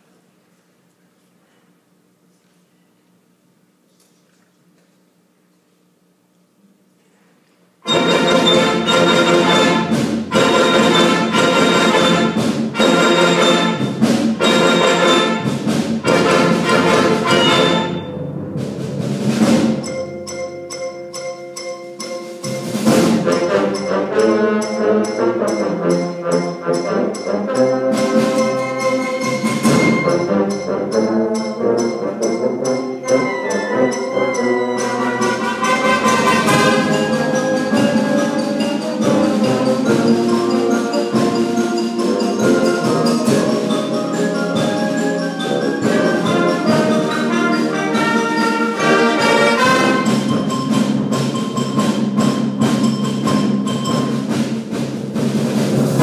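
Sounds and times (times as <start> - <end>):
concert band playing: 7.8 - 56.0.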